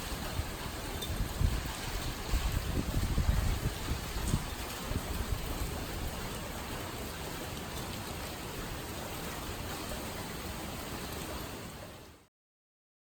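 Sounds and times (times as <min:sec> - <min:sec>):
low wind rumble: 0:00.0 - 0:11.9
heavy rain hissing: 0:00.0 - 0:12.3.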